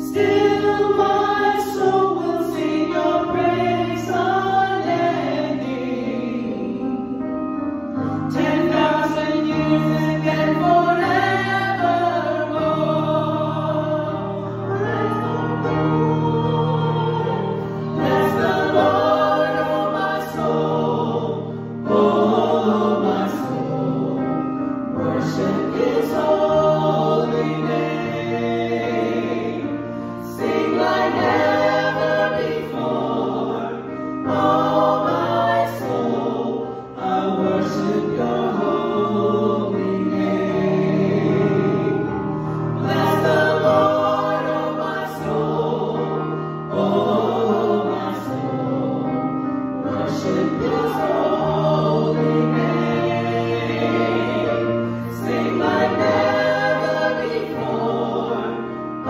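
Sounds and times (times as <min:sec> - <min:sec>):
women singing gospel in parts: 0:00.0 - 0:59.0.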